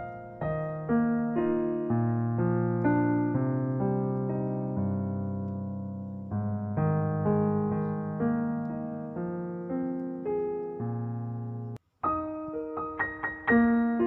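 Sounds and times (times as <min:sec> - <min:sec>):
slow piano notes: 0:00.0 - 0:14.0.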